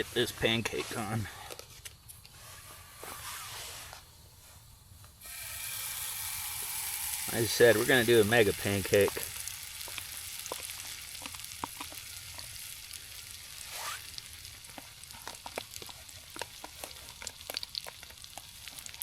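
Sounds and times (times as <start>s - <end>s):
batter sizzling in a pan: 2.3s - 19.0s.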